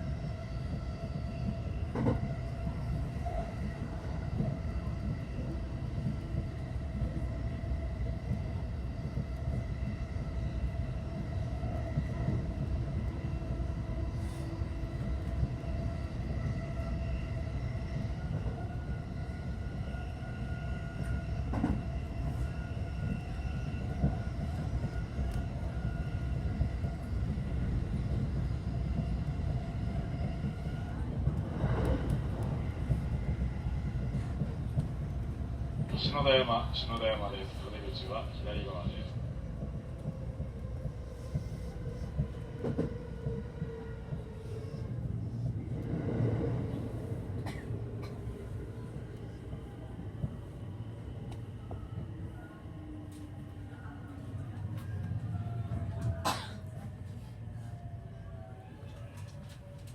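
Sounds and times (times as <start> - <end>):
low rumble of wheels on rail: 0.0 - 59.9.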